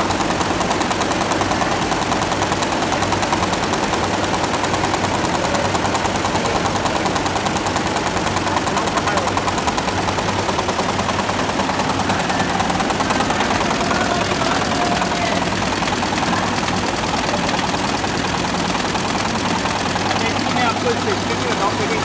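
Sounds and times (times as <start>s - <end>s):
embroidery machines clattering: 0.0s - 22.0s.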